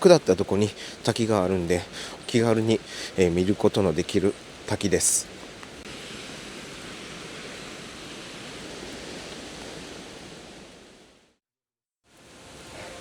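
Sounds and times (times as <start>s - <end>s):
waterfall rushing: 0.1s - 11.1s, 12.2s - 13.0s.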